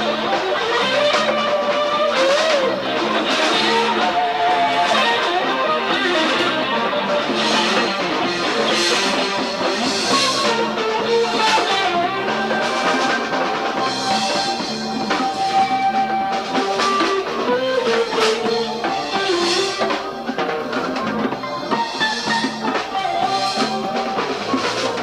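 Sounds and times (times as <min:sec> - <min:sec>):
bass guitar: 0:00.0 - 0:25.0
drum kit with cymbal crashes: 0:00.0 - 0:25.0
guitar with held notes: 0:00.0 - 0:25.0.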